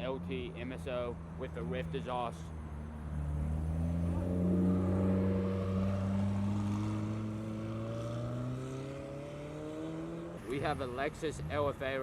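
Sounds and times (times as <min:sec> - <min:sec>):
car engine at low speed: 0:00.0 - 0:12.0.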